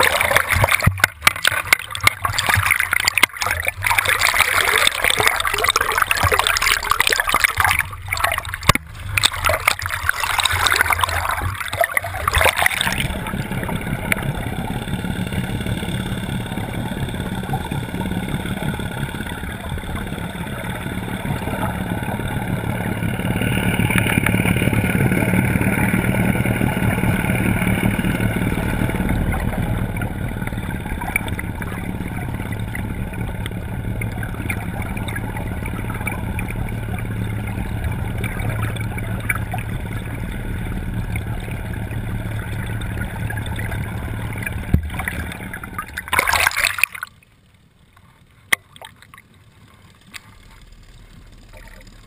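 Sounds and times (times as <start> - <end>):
boat motor drone: 0.0 - 52.0
water rushing and splashing: 0.0 - 52.0.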